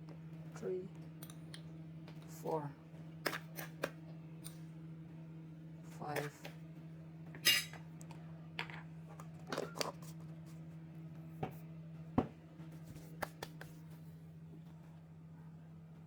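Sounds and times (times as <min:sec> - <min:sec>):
low appliance hum: 0:00.0 - 0:16.0.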